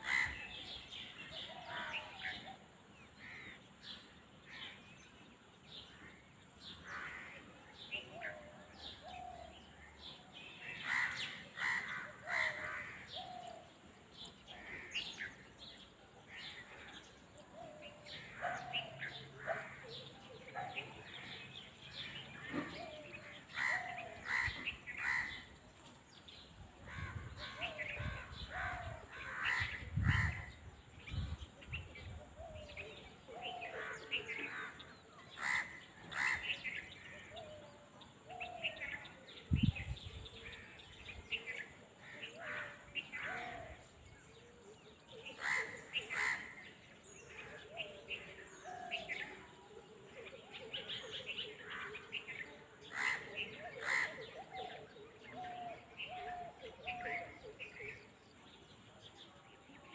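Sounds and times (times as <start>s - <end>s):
wild birds calling and chirping: 0.0s - 59.9s.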